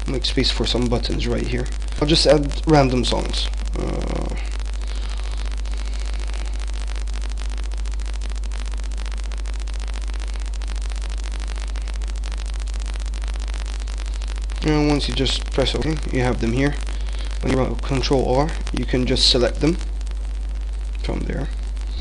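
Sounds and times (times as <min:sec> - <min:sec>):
electrical hum and hiss: 0:00.0 - 0:22.0
static crackle: 0:00.0 - 0:22.0.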